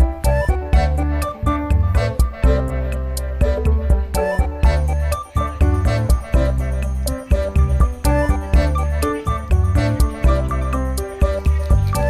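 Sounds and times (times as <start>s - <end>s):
upbeat music with bass and keyboard: 0.0s - 12.0s.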